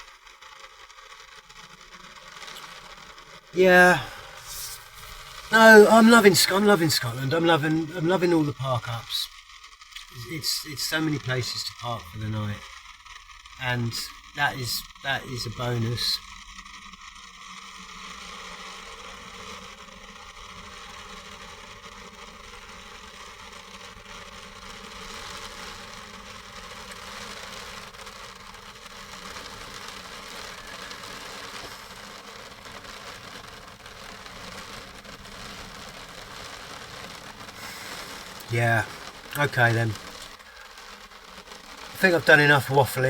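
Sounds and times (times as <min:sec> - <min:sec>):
rain on a vehicle roof: 0:00.0 - 0:43.0.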